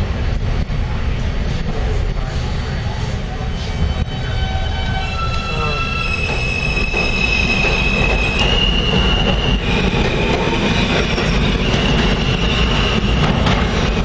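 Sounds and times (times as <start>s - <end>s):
subway train rumble: 0.0s - 14.0s
steel wheels squealing on rails: 2.3s - 14.0s.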